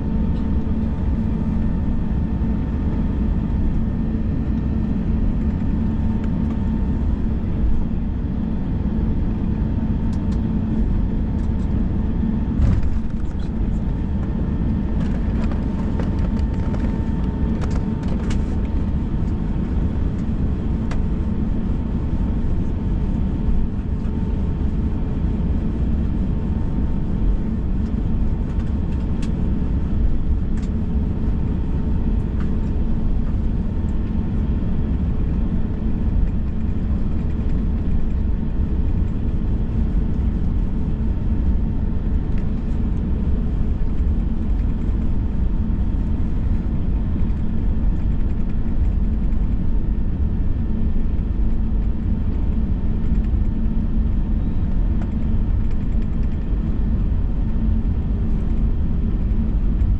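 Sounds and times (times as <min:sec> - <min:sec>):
aircraft engines idling rumble: 0:00.0 - 0:59.9
faint steady hum: 0:00.0 - 0:59.9.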